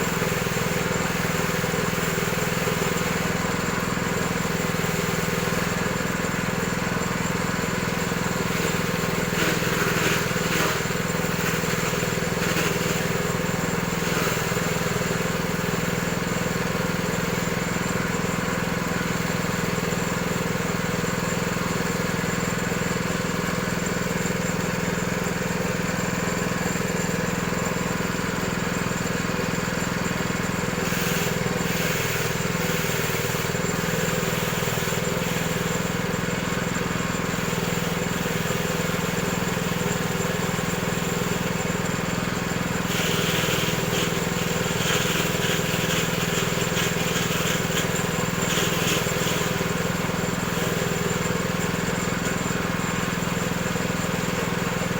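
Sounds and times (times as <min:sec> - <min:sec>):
shredding machine humming: 0:00.0 - 0:54.9.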